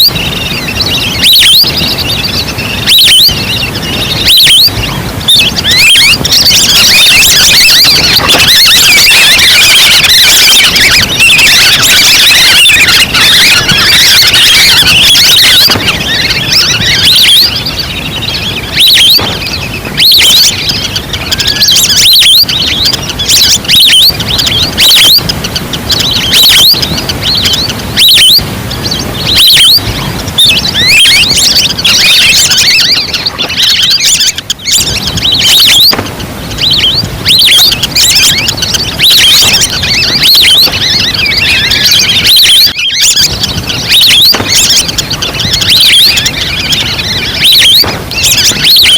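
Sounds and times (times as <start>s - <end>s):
ducks chattering whistles: 0.0s - 48.9s.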